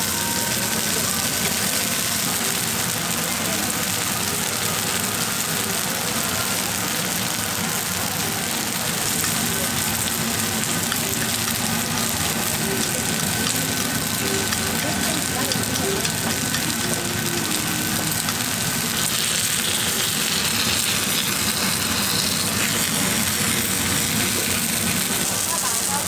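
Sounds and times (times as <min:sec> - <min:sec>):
balls frying in oil: 0:00.0 - 0:26.0.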